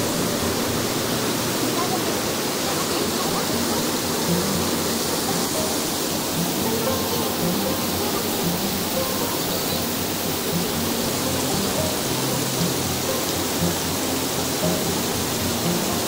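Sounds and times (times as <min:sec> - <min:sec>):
soft background music: 0:00.0 - 0:16.0
water streaming down rock: 0:00.0 - 0:16.0.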